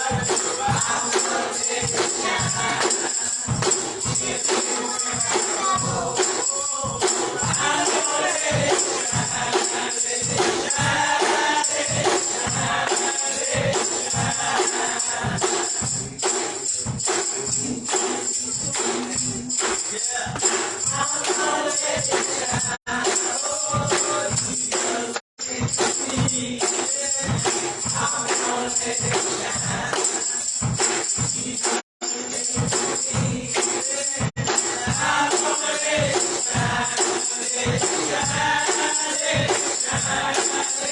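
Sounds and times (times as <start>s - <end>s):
choir singing: 0.0s - 16.2s, 20.4s - 30.6s, 31.5s - 40.9s
band playing driving beat: 0.0s - 40.9s
tambourine shaking: 0.0s - 40.9s.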